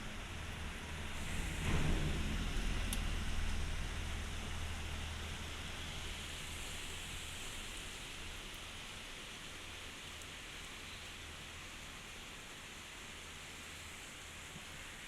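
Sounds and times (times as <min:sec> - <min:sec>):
heavy rain pouring: 0:00.2 - 0:15.0.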